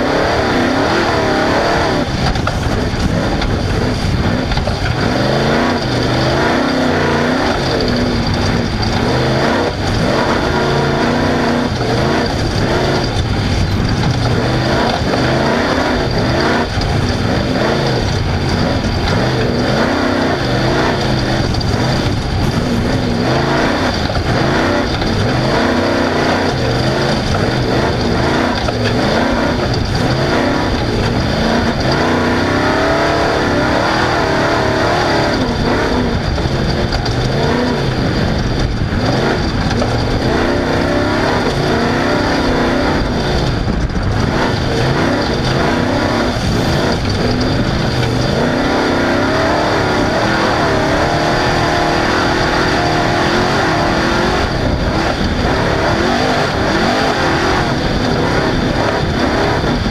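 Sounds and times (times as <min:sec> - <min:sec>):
engine revving: 0:00.0 - 0:59.9.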